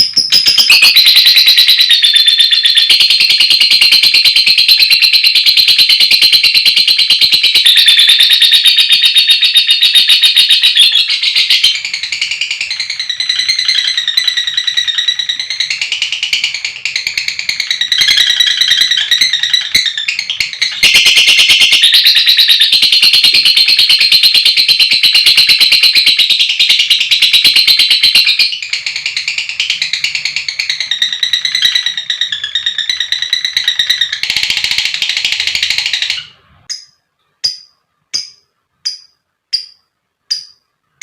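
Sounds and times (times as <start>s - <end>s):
lovebird chattering trill: 0.0s - 40.6s.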